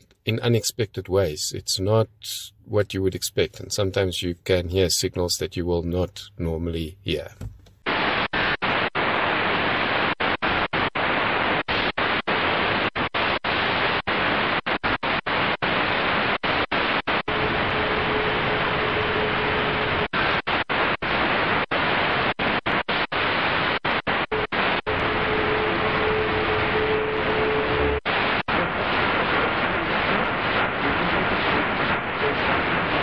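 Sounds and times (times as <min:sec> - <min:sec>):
radio static hissing: 0:00.0 - 0:33.0.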